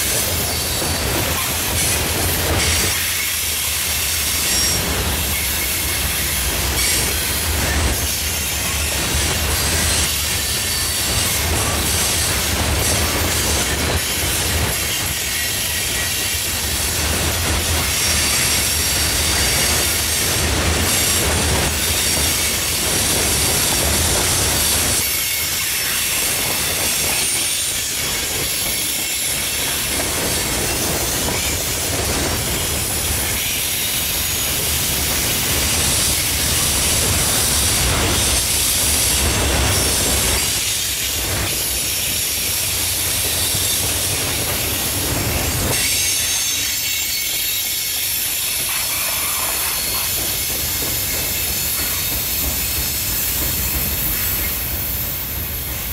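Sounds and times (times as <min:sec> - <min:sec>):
freight train rolling on rails: 0:00.0 - 0:55.9.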